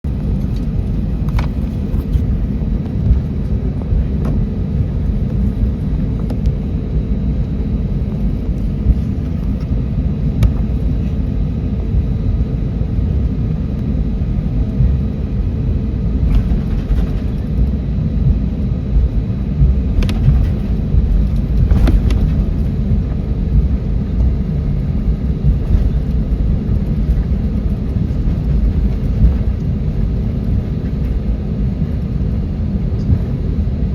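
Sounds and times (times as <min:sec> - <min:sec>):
aircraft cabin rumble while taxiing: 0:00.0 - 0:33.9.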